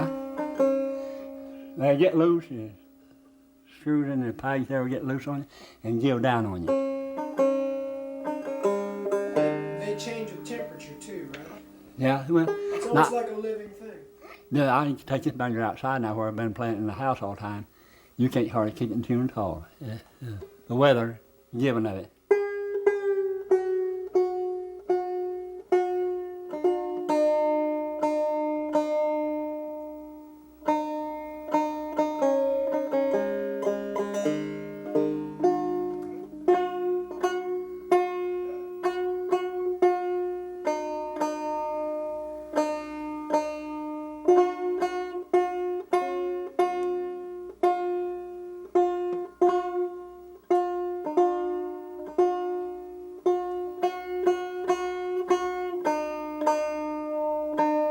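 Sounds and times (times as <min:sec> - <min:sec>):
banjo plucking: 0:00.0 - 0:57.9.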